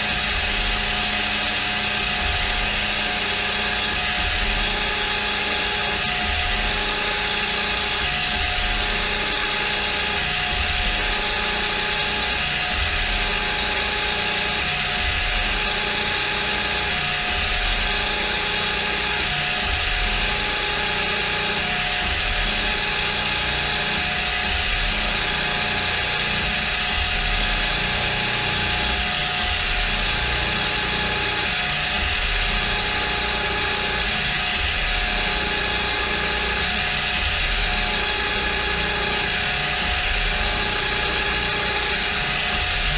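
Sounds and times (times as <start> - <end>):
mill spindle gearbox whine: 0.0 - 42.9.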